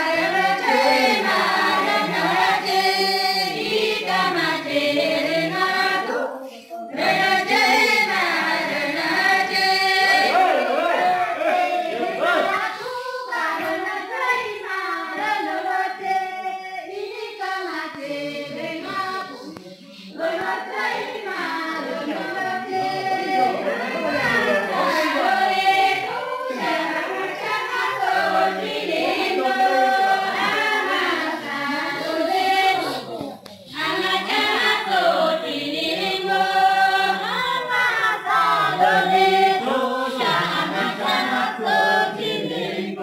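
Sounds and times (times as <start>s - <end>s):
group of voices singing in chorus: 0.0s - 43.0s.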